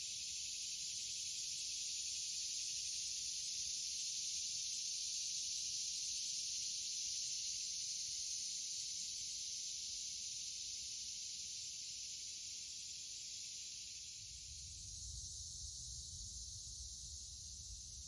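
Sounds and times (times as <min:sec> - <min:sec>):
insect chorus hiss: 0:00.0 - 0:18.0.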